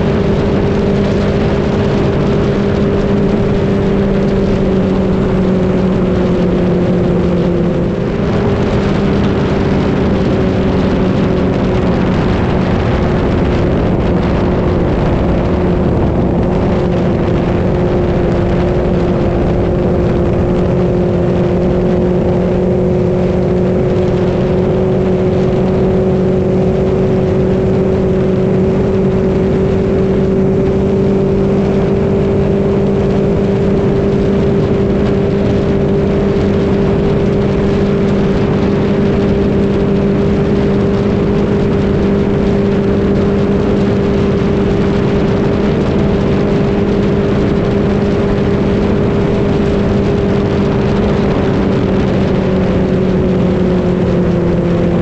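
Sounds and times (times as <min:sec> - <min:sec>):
outboard motor running: 0:00.0 - 0:55.0
water rushing: 0:00.0 - 0:55.0
wind: 0:00.0 - 0:55.0.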